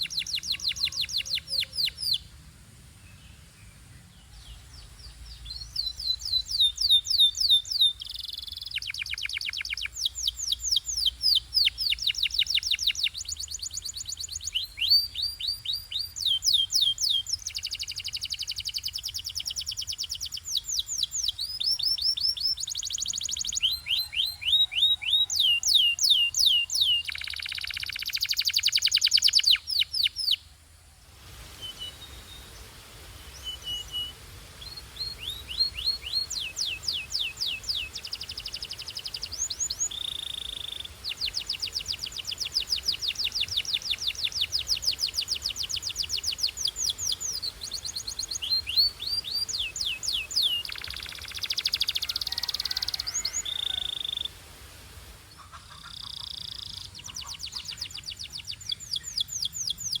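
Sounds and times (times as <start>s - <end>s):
canary singing: 0.0s - 2.3s, 5.3s - 30.4s, 33.2s - 54.4s, 55.5s - 60.0s.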